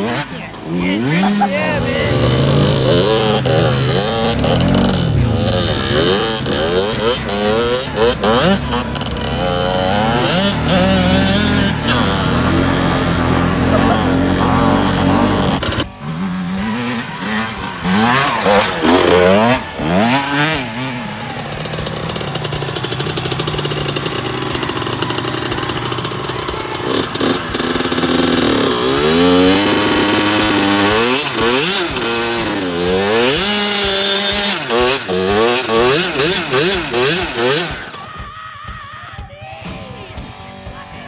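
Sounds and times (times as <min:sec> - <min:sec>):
dirt bike engine revving: 0:00.0 - 0:38.2.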